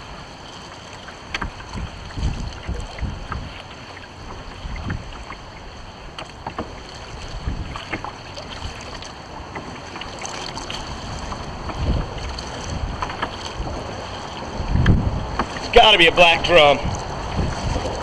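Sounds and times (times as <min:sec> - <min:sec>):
water lapping against kayak hull: 0:00.0 - 0:18.0
wind buffeting microphone: 0:01.2 - 0:09.4, 0:10.1 - 0:18.0.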